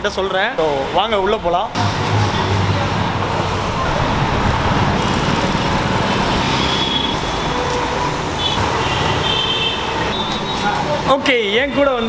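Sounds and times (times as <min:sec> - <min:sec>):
road traffic roar: 0:00.0 - 0:12.0.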